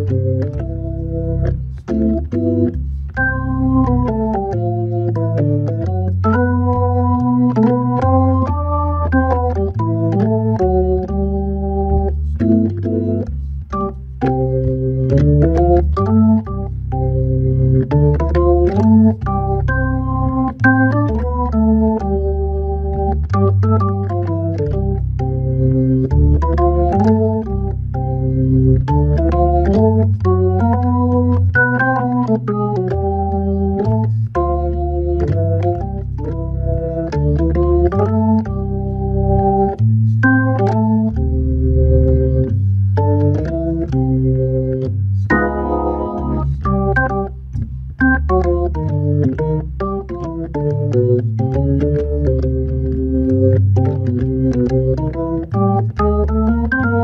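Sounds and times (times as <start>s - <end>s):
jazz organ playing: 0.0s - 57.0s.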